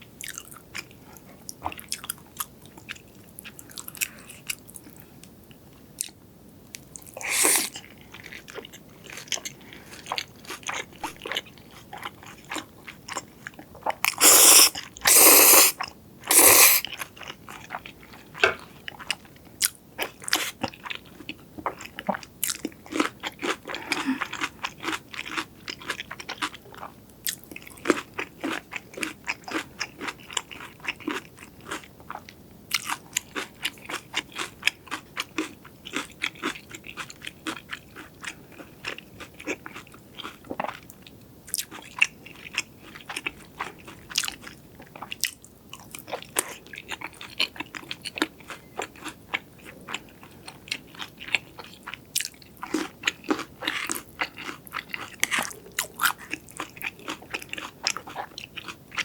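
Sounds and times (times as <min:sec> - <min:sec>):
chewing crunchy food: 0:00.2 - 0:59.0.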